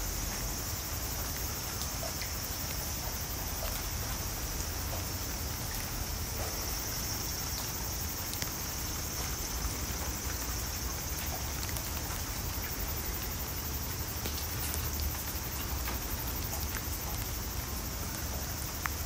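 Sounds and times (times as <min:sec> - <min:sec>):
cicadas chorus: 0:00.0 - 0:19.0
faint ticks: 0:00.0 - 0:19.0.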